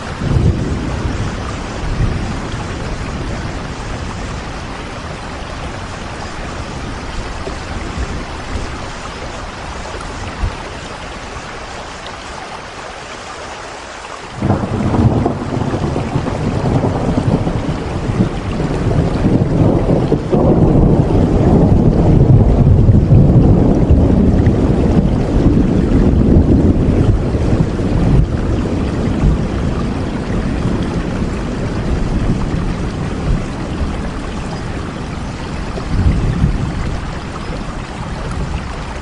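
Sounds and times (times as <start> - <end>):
thunder rumble: 0.0 - 10.7, 14.4 - 39.0
steady rain: 0.0 - 39.0.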